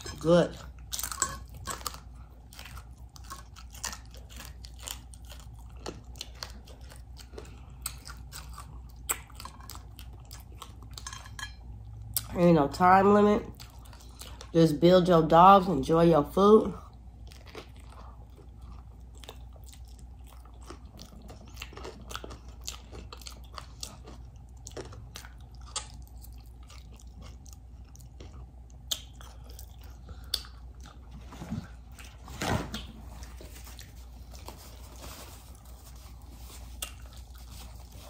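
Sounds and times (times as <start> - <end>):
crunchy chewing: 0.6 - 11.2, 16.8 - 32.2, 32.8 - 38.0.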